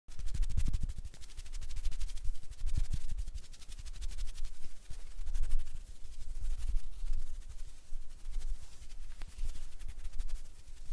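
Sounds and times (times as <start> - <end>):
crackly hand rustling: 0.1 - 10.9.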